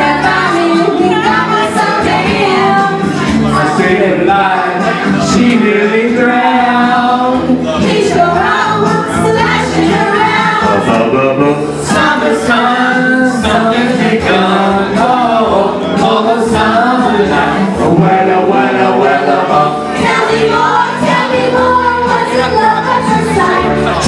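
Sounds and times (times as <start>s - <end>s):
loud music: 0.0s - 24.0s
several voices singing: 0.0s - 24.0s.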